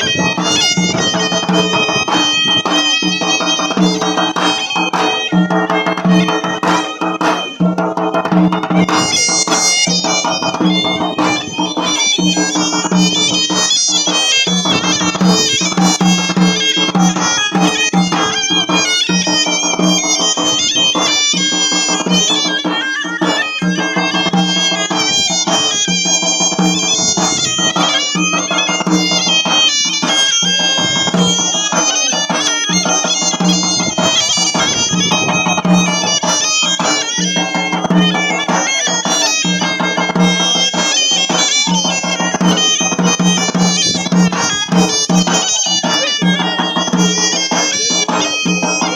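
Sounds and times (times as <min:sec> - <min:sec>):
percussion: 0:00.0 - 0:48.9
reedy wind instrument melody: 0:00.0 - 0:48.9.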